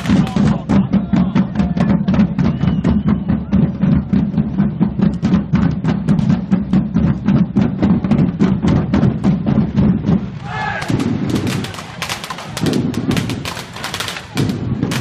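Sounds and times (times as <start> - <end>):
drums beating fast rhythm: 0.0 - 15.0.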